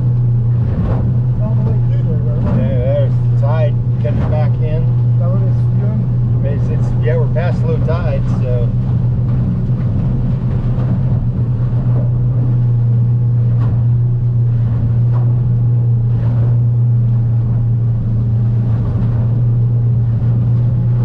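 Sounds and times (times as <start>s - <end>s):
outboard motor drone: 0.0s - 21.0s
waves splashing on hull: 0.0s - 21.0s.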